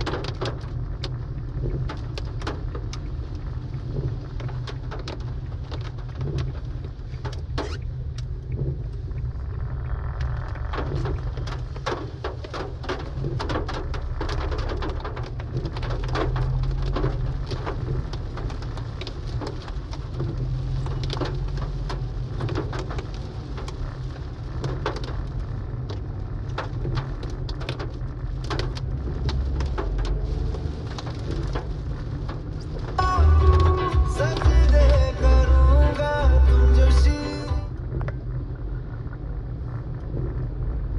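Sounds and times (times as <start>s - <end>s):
rain hitting car windshield: 0.0s - 40.9s
road noise rumble: 0.0s - 40.9s.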